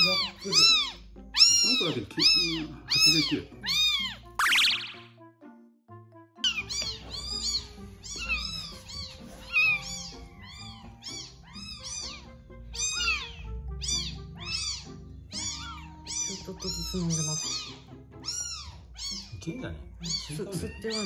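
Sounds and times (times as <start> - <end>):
kitten screaming: 0.0 - 5.1, 6.4 - 21.0.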